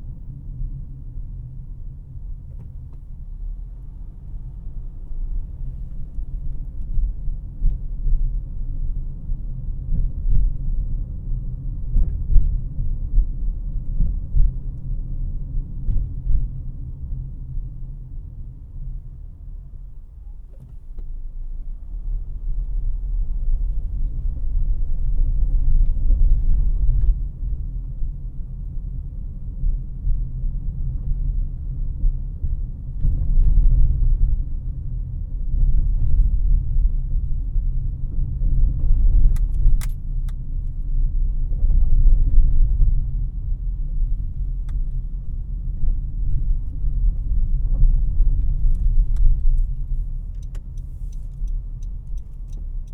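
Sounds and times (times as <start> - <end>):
road and engine rumble: 0.0 - 52.9.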